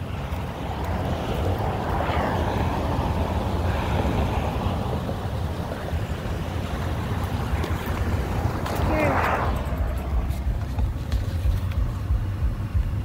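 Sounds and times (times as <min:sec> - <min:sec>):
scooter wheels rolling on pavement: 0:00.0 - 0:12.6.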